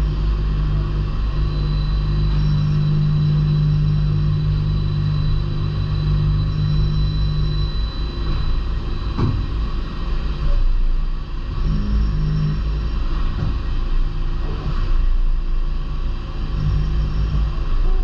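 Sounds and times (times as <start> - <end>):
lathe machine hum: 0.0 - 18.0.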